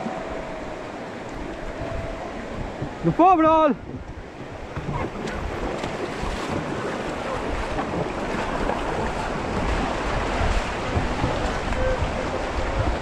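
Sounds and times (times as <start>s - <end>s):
rushing river water: 0.0s - 13.0s
wind buffeting microphone: 0.0s - 13.0s.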